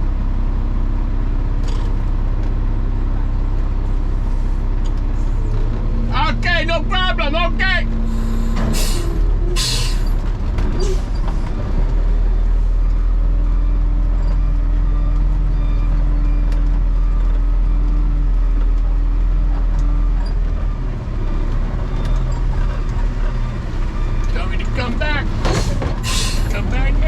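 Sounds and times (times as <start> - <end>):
garbage truck rumbling: 0.0 - 27.0.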